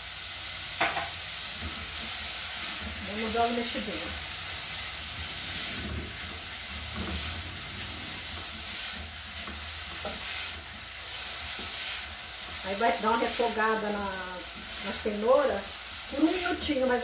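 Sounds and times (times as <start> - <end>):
vegetables sizzling in oil: 0.0 - 17.0
spatula stirring in pan: 0.8 - 17.0.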